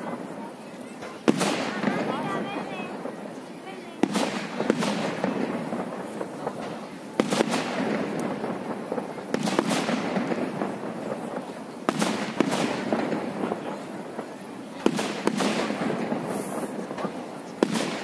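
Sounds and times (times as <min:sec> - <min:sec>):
steady rush of noise: 0:00.0 - 0:18.0
firework shells bursting: 0:01.0 - 0:18.0.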